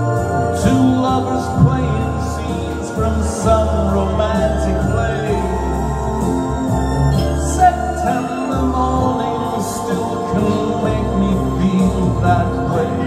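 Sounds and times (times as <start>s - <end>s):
instrumental backing with bass: 0.0s - 13.0s
man singing into microphone: 0.0s - 13.0s.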